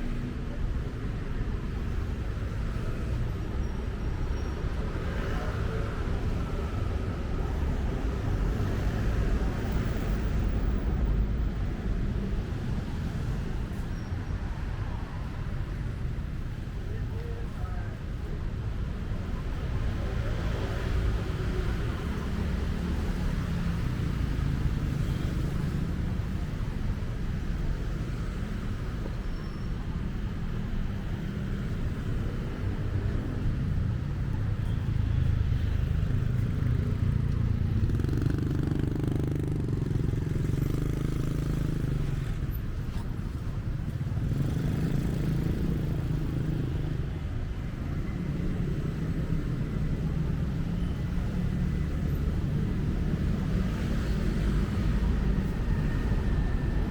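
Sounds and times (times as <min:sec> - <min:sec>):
traffic rumble: 0:00.0 - 0:56.9.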